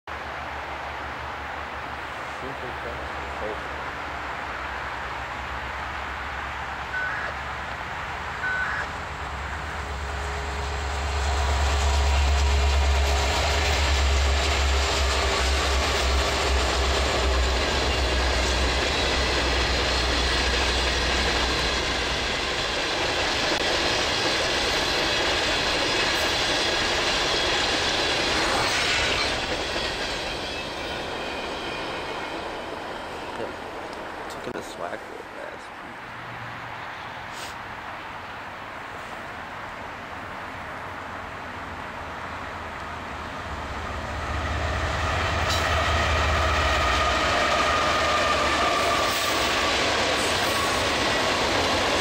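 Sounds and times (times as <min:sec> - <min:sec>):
train wheels on rails: 0:00.1 - 0:35.6, 0:40.7 - 0:52.0
diesel locomotive rumble: 0:01.8 - 0:36.0, 0:40.7 - 0:52.0.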